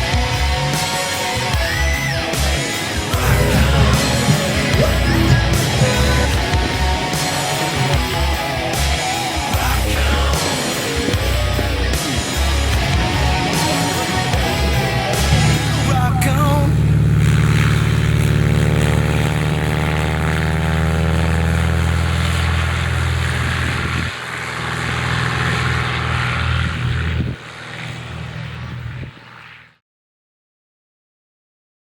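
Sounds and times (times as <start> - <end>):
large engine running: 0.1 - 29.6.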